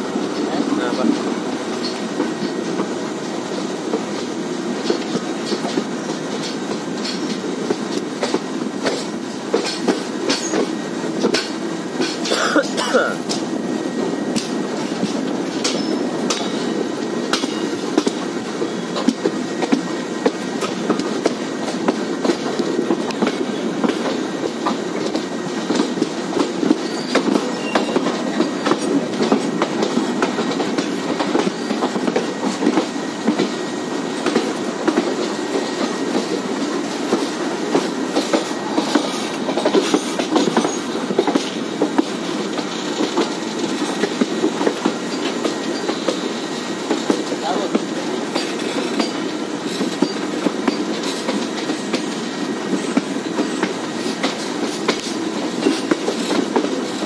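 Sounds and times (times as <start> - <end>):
train clicks and rattles: 0.0 - 57.0
train wheels rumbling on rails: 0.0 - 57.0.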